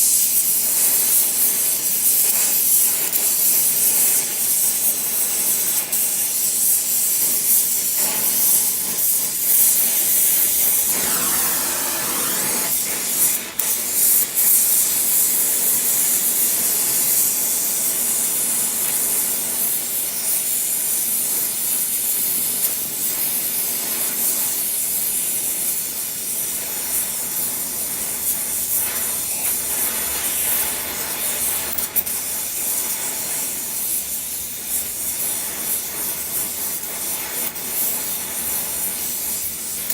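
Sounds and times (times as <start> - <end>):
torch flame hissing: 0.0 - 20.3, 26.4 - 39.9.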